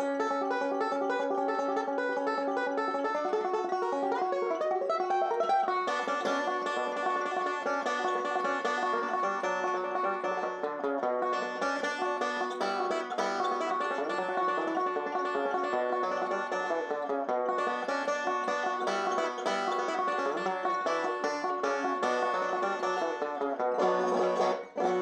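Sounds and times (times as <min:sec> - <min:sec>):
banjo playing: 0:00.0 - 0:25.0.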